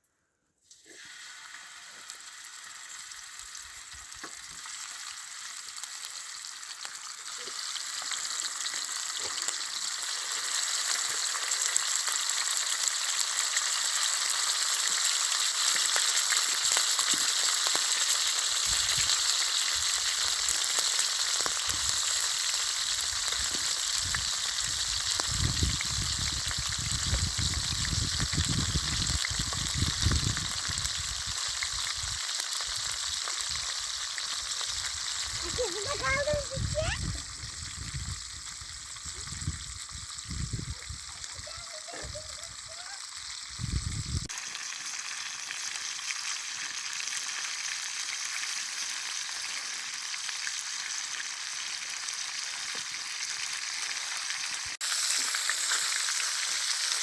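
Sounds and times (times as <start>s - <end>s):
food sizzling in hot oil: 0.6s - 57.0s.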